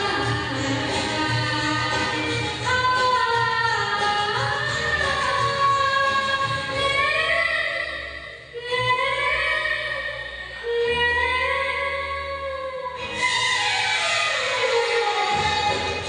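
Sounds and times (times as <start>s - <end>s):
woman singing into microphone: 0.0s - 16.0s.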